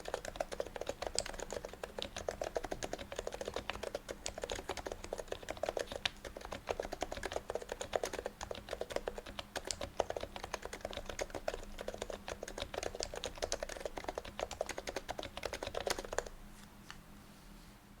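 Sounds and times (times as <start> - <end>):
keyboard typing muted clacks: 0.0 - 16.4.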